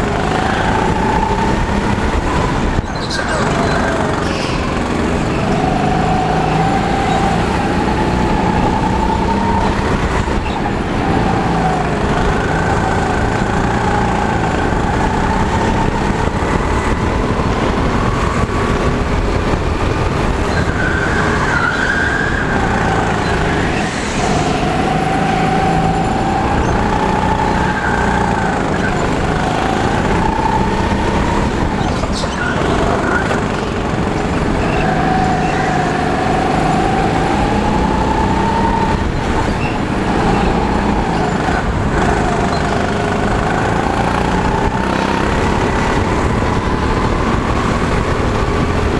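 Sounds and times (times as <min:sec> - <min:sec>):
go-kart motor revving: 0:00.0 - 0:48.9.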